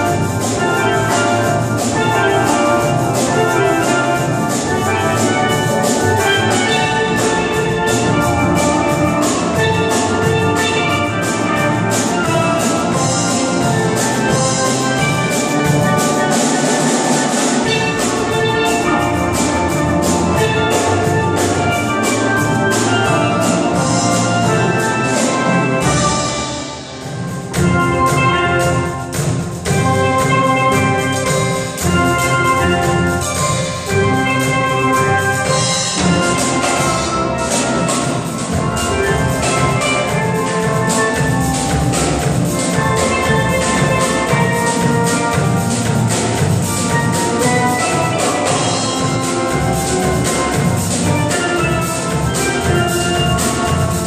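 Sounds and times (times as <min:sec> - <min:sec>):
drum kit: 0:00.0 - 0:54.0
steel pan ensemble playing: 0:00.0 - 0:54.0.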